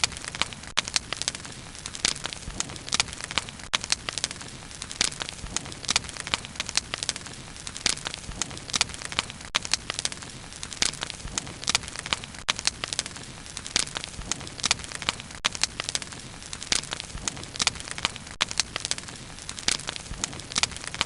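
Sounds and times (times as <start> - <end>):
bonfire hissing: 0.0 - 21.0
burning wood crackling and popping: 0.0 - 21.0.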